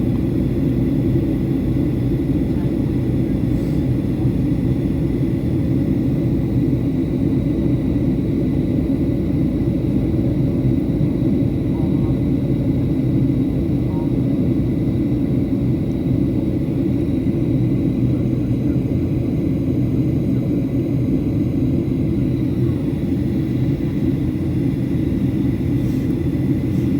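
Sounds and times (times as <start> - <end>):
airplane cabin engine rumble: 0.0 - 26.9.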